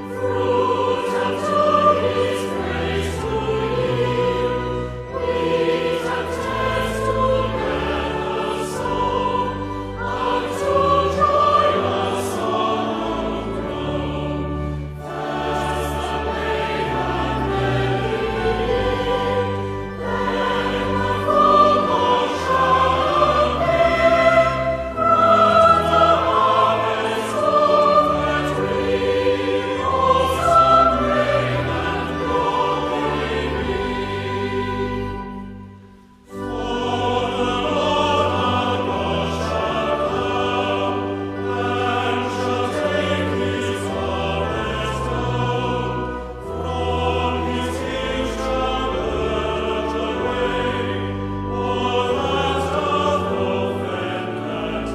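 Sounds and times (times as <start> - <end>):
choir singing a hymn: 0.0 - 54.9.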